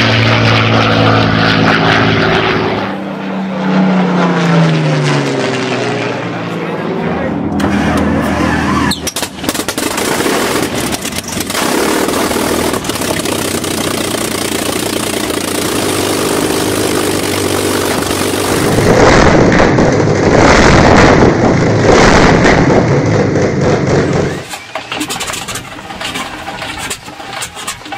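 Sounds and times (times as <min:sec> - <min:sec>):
aircraft engine running: 0:00.0 - 0:27.9.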